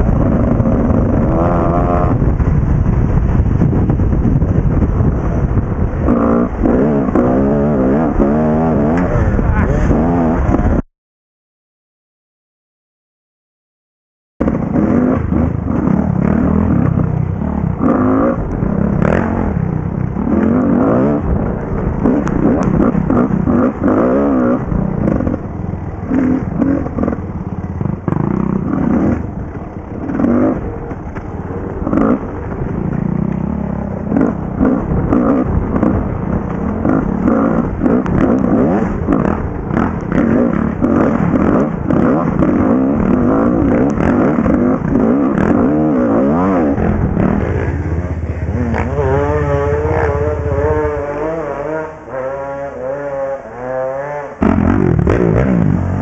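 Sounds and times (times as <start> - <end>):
dirt bike engine revving: 0.0 - 10.8, 14.4 - 56.0.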